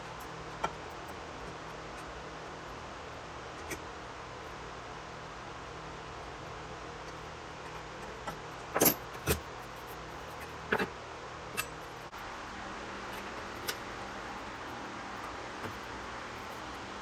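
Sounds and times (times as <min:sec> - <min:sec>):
background hum: 0:00.0 - 0:17.0.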